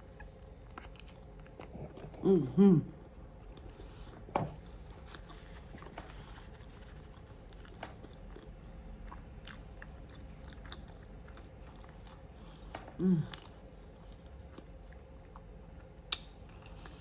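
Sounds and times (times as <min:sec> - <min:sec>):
person chewing food: 0:00.1 - 0:02.2, 0:03.0 - 0:17.0.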